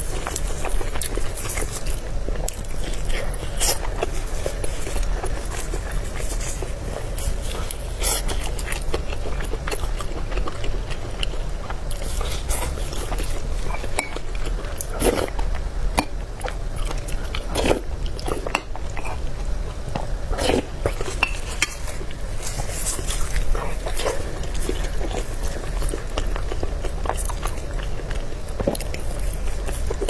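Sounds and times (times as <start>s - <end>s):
chewing noodles: 0.0s - 30.0s.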